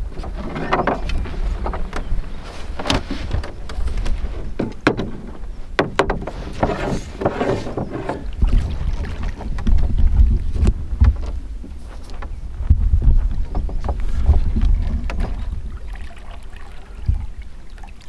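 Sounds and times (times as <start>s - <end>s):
water slapping hull: 0.0s - 18.0s
water washing along hull: 0.0s - 18.0s
wind rumbling on microphone: 0.0s - 18.0s.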